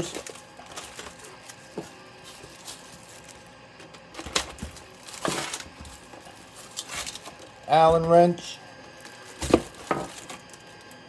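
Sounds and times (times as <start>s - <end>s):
hand tools and packaging handled: 0.0s - 11.0s.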